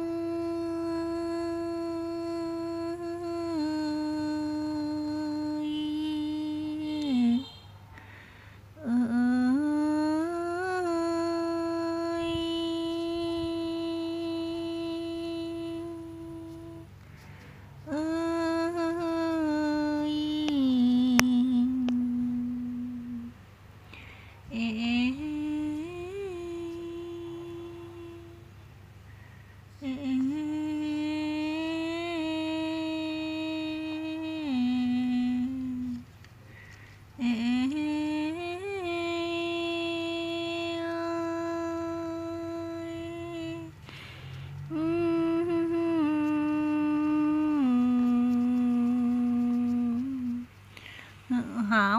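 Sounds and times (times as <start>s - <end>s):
person humming a lullaby: 0.0s - 7.6s, 8.8s - 17.0s, 17.8s - 28.6s, 29.7s - 36.1s, 37.2s - 51.9s.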